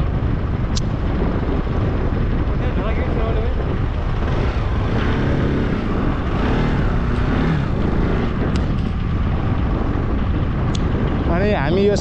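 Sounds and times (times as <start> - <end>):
motorcycle engine rumbling: 0.0 - 12.0
wind buffeting microphone: 0.0 - 12.0.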